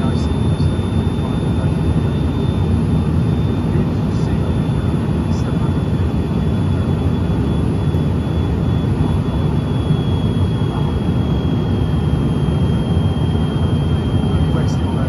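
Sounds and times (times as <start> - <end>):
jet cabin low rumble: 0.0 - 15.0
thin high whine: 0.0 - 15.0.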